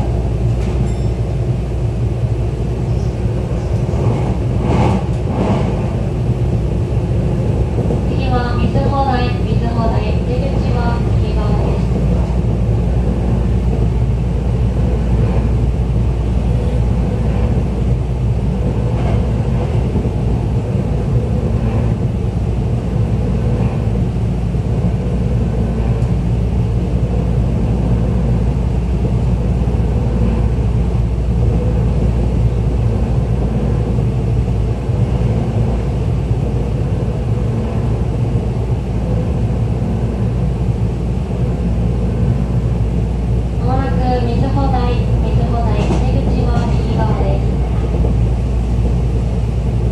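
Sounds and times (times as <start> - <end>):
steady hum: 0.0 - 49.9
train wheels rumbling on rails: 0.0 - 49.9.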